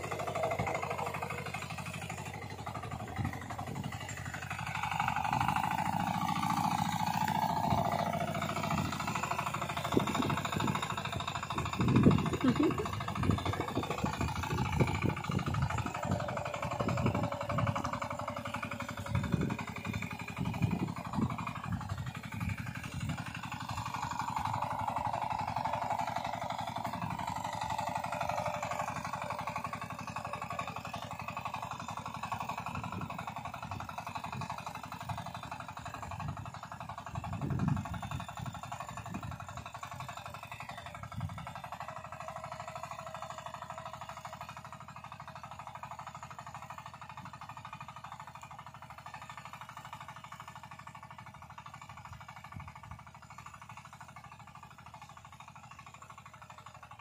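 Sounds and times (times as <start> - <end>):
power weeder engine running: 0.0 - 57.0.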